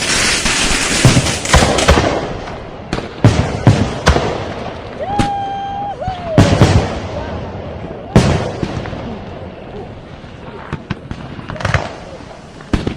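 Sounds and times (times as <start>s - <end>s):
loud firework bangs: 0.0s - 5.5s, 6.2s - 9.4s, 10.5s - 12.9s
firecrackers crackling: 0.0s - 12.9s.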